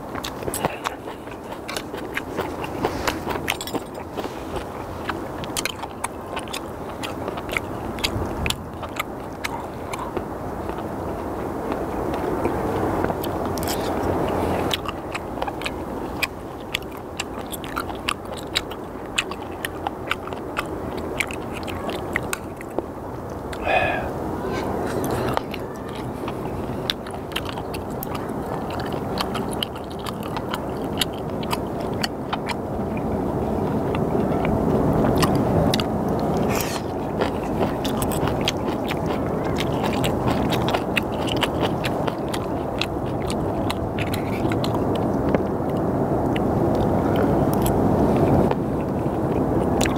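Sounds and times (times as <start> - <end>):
chewing with sharp crunches: 0.0 - 49.9
low background rumble: 0.0 - 49.9.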